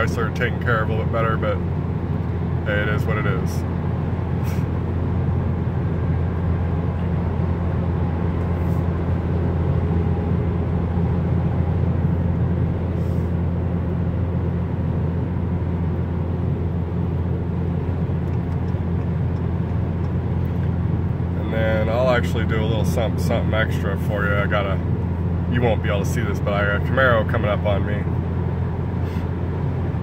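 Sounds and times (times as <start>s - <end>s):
low exhaust hum: 0.0s - 30.0s
road and wind noise: 0.0s - 30.0s.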